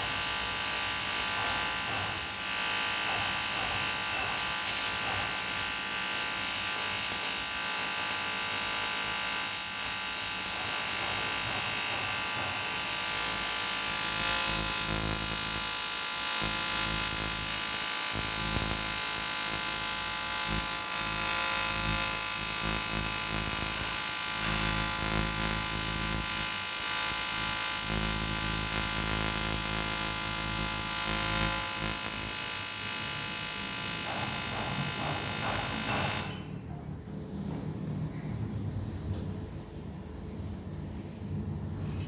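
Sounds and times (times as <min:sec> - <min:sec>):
welding arc buzzing with hiss: 0:00.0 - 0:36.5.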